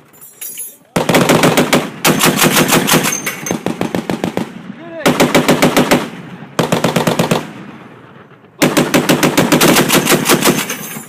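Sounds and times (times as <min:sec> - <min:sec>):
heavy machine gun firing bursts: 0:01.0 - 0:07.7, 0:08.6 - 0:10.9.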